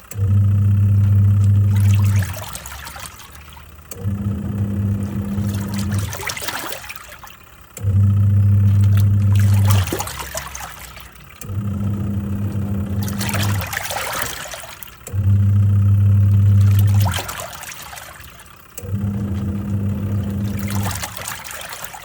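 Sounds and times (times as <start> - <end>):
washing machine motor humming: 0.0 - 22.0
water sloshing: 0.9 - 22.0.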